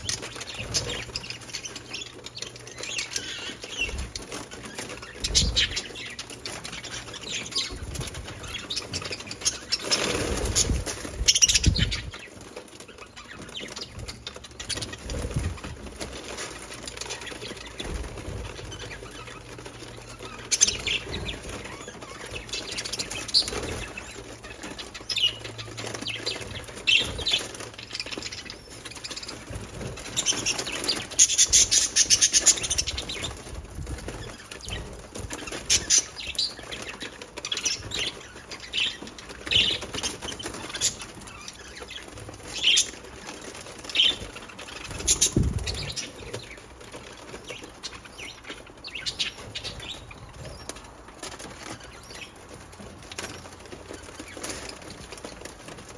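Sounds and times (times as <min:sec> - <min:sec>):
budgerigars chirping: 0:00.0 - 0:50.9
wing flutters: 0:00.0 - 0:55.9.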